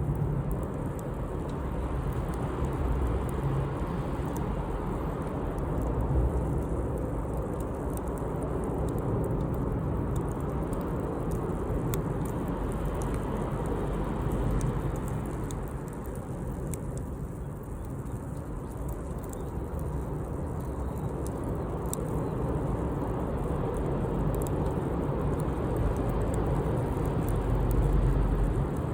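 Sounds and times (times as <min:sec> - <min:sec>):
campfire crackling and popping: 0:00.0 - 0:28.9.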